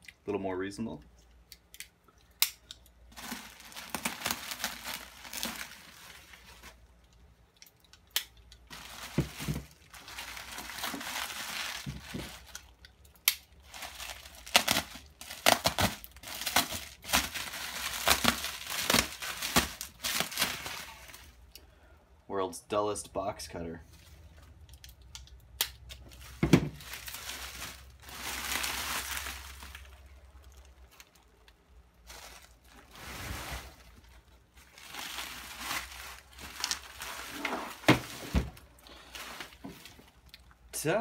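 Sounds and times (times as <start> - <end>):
bubble wrap crinkling and rustling: 3.0 - 21.5, 25.8 - 40.6.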